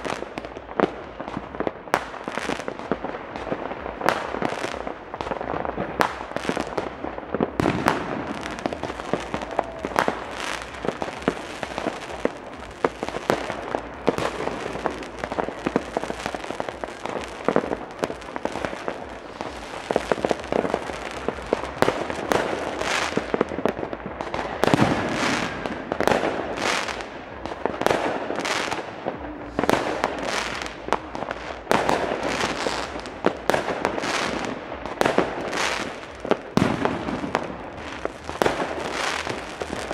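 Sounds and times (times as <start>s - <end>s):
fireworks and firecrackers exploding: 0.0s - 39.9s.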